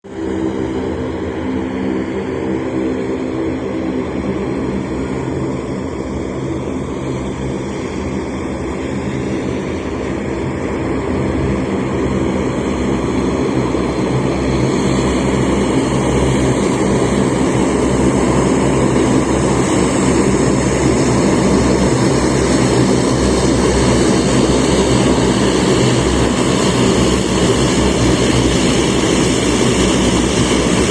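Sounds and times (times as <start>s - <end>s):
turboprop engines and propellers: 0.0s - 30.9s.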